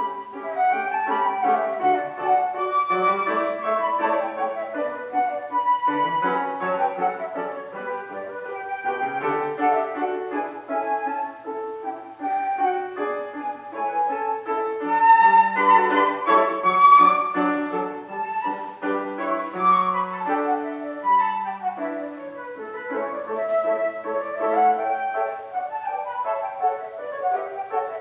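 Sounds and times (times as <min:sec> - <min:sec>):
piano accompaniment: 0:00.0 - 0:28.0
solo instrument melody: 0:00.0 - 0:28.0.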